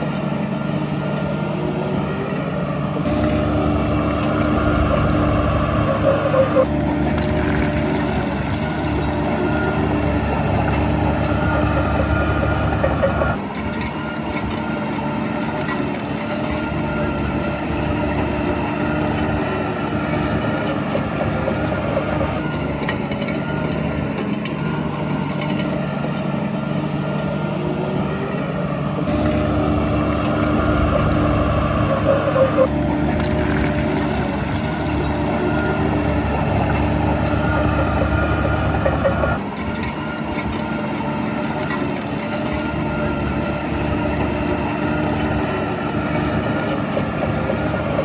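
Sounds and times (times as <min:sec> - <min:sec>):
heavy diesel machinery engine: 0:00.0 - 0:48.0.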